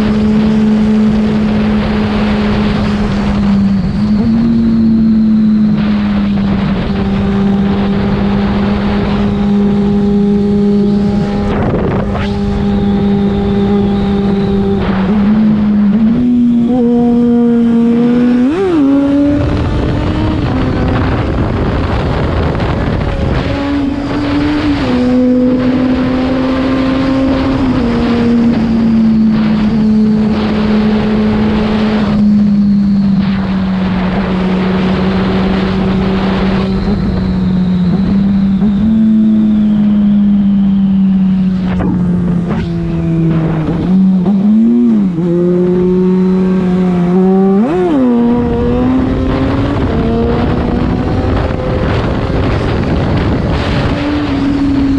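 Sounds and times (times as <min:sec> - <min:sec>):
motorcycle engine while riding: 0:00.0 - 0:54.9
wind rush: 0:00.0 - 0:54.9.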